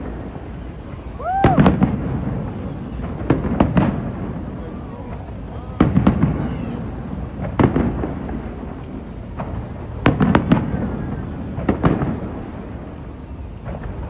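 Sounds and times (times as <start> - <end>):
fireworks bursting: 0.0 - 14.0
low rolling echo: 0.0 - 14.0.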